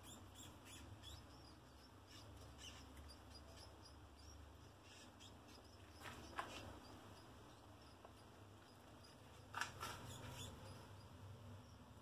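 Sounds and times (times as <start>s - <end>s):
low steady hum: 0.0s - 12.0s
rats rustling and scratching: 0.0s - 12.0s.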